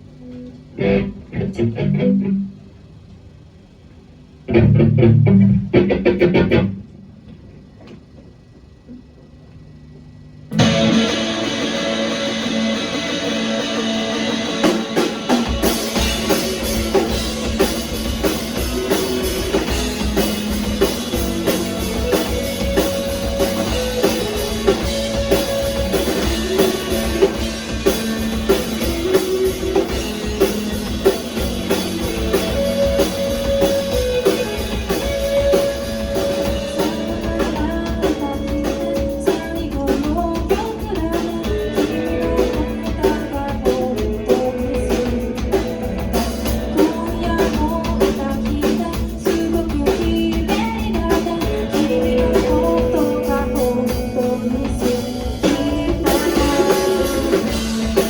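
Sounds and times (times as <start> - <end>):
rock guitar: 0.2 - 2.6, 4.4 - 7.0, 10.5 - 58.0
drum kit beat: 4.5 - 6.8, 10.5 - 58.0.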